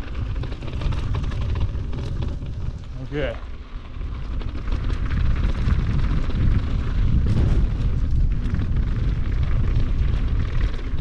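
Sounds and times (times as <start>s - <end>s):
bike tyres rattling on gravel: 0.0s - 11.0s
wind buffeting microphone: 0.0s - 11.0s.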